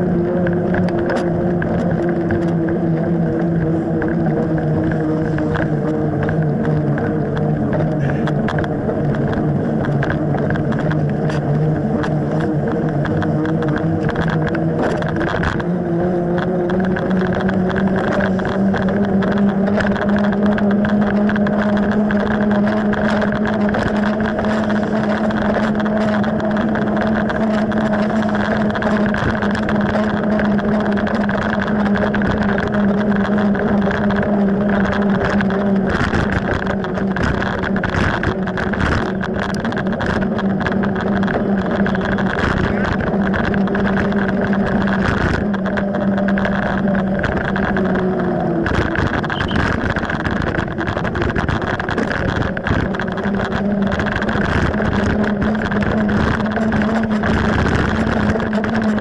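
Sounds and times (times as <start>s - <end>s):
bike rattles and clicks: 0.0s - 59.0s
bike tyres humming on wet asphalt: 0.0s - 59.0s.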